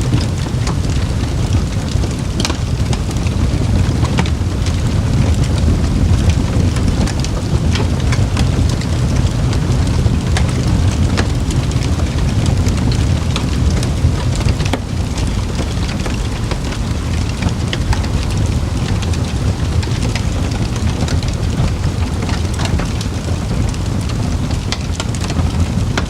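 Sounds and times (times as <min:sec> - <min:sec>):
campfire crackling: 0:00.0 - 0:26.0
low fire rumble: 0:00.0 - 0:26.0.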